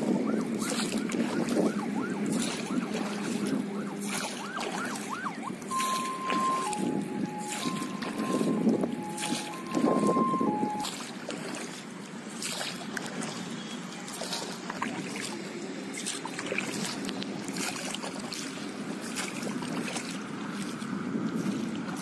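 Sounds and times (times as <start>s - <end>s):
short water splashes: 0.0s - 22.0s
water washing against hull: 0.0s - 22.0s.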